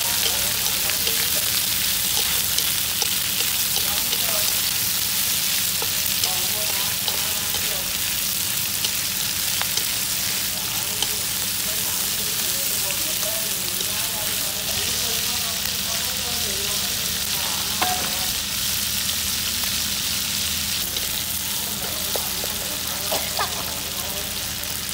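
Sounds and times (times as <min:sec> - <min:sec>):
pork sizzling in hot oil: 0:00.0 - 0:24.9.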